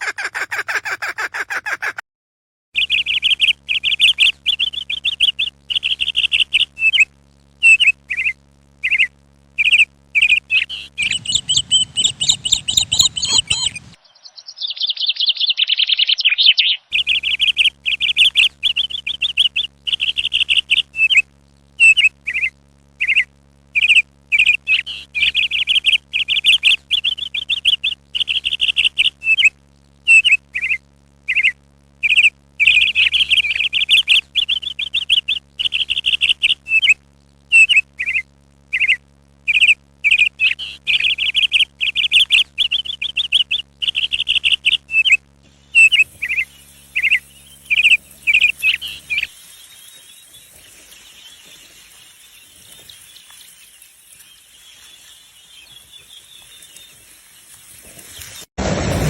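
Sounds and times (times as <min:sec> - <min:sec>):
birds chirping trilled calls: 0:02.8 - 0:21.2, 0:21.8 - 0:29.5, 0:30.1 - 0:58.5.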